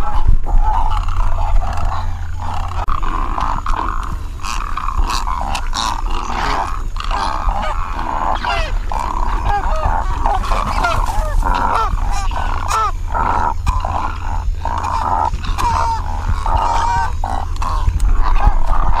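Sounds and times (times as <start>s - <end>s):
egrets croaking calls: 0.0s - 19.0s
steady low rumble: 0.0s - 19.0s.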